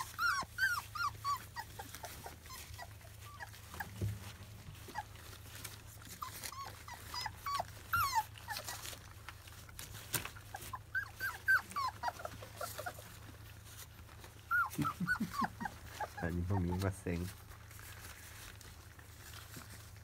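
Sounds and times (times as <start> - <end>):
puppies squeaking and whimpering: 0.0 - 20.0.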